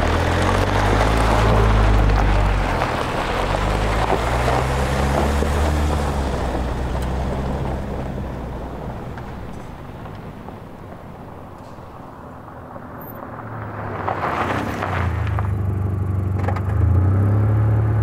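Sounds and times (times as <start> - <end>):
vehicle engine driving off: 0.0 - 18.0.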